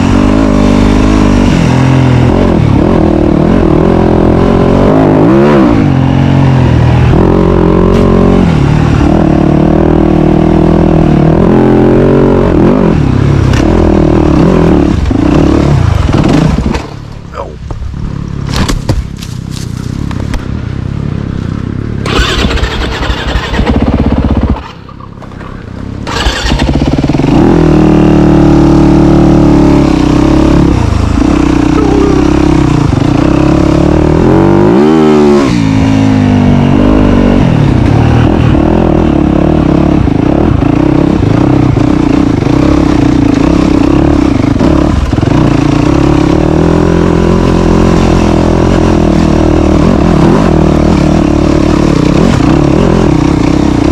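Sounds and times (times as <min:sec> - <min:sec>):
dirt bike engine revving: 0:00.0 - 0:17.0, 0:22.0 - 0:53.9.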